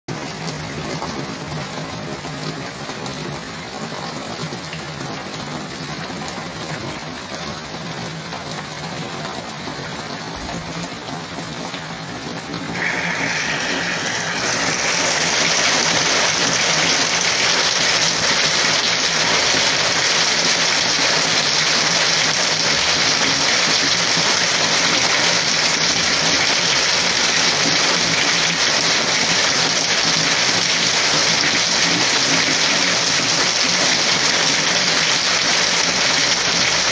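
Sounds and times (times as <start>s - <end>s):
heavy rain: 0.1s - 36.9s.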